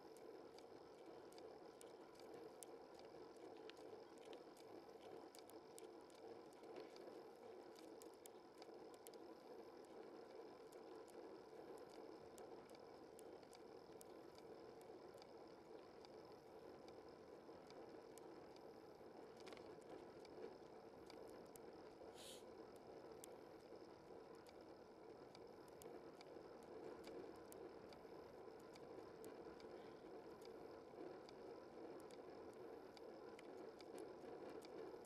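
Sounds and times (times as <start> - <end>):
light ticks: 0.0 - 35.0.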